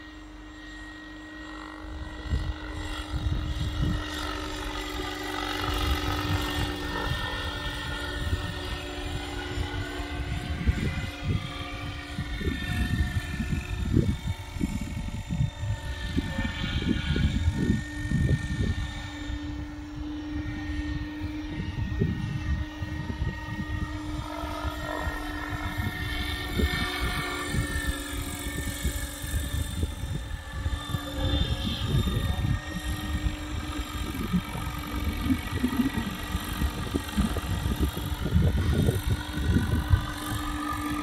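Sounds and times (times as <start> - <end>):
helicopter whine overhead: 0.0 - 41.0
wind buffeting microphone: 1.9 - 41.0.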